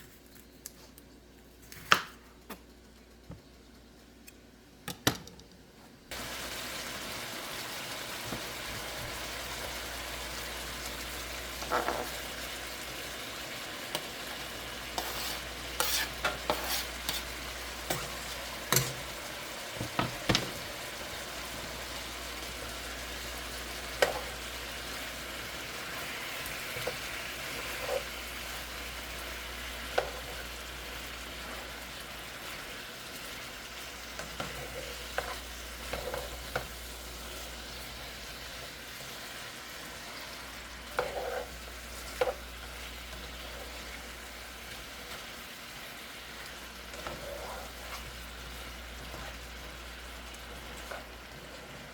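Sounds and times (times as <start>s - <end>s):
food sizzling in a frying pan: 6.1s - 51.9s.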